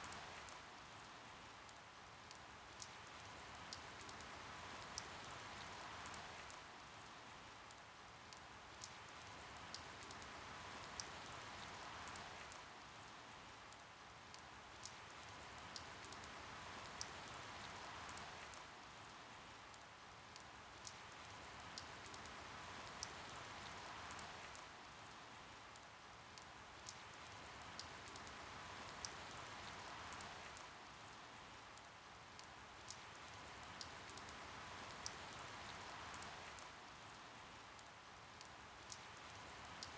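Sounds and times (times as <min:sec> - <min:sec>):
soft rain falling: 0:00.0 - 0:39.9
sharp water drips: 0:01.5 - 0:13.1, 0:13.7 - 0:39.9.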